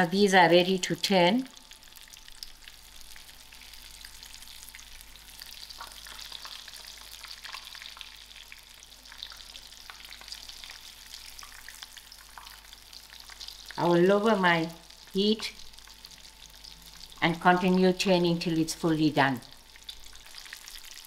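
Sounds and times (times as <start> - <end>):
chicken sizzling in hot oil: 0.9 - 17.7, 18.5 - 21.0.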